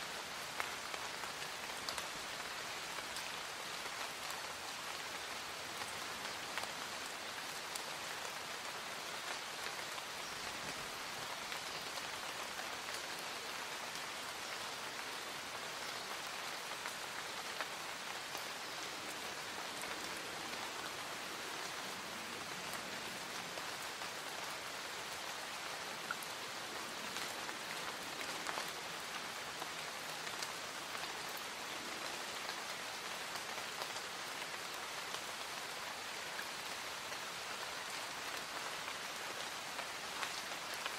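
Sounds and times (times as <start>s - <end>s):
light rain in woodland: 0.0s - 40.9s.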